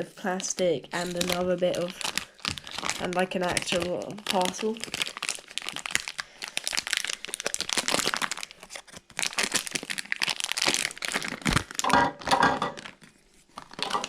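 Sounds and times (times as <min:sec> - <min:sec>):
plastic packaging crinkling and tearing: 0:00.5 - 0:14.0.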